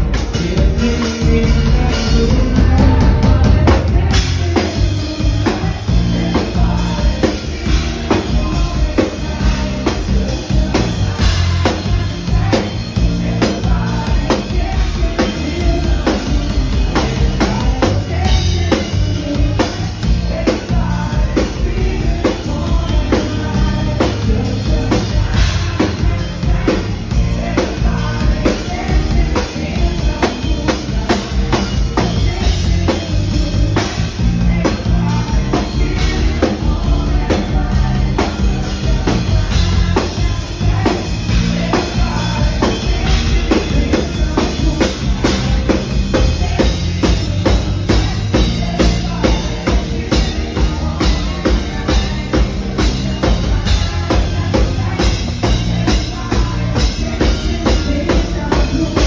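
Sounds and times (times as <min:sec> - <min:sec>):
drum kit beat: 0:00.0 - 0:59.0
lead singer singing: 0:00.0 - 0:59.0
rock band playing: 0:00.0 - 0:59.0.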